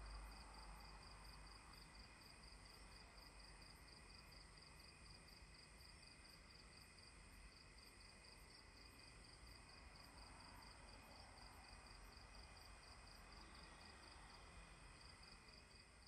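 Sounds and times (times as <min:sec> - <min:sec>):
insect chirping: 0:00.2 - 0:16.0.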